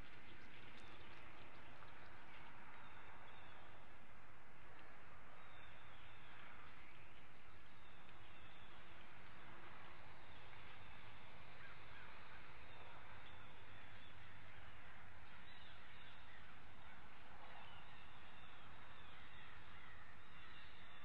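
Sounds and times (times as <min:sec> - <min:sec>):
outdoor ambience hiss: 0:00.0 - 0:21.0.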